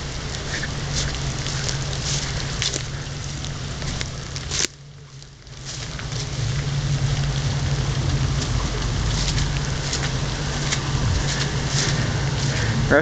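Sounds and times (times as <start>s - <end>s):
crackles: 0.0s - 13.0s
wind buffeting microphone: 0.0s - 13.0s.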